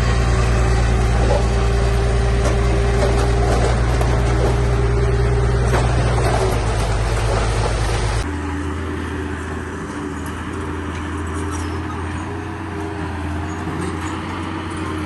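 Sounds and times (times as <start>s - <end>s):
diesel construction machinery droning: 0.0s - 15.0s
quieter higher engine: 0.0s - 15.0s.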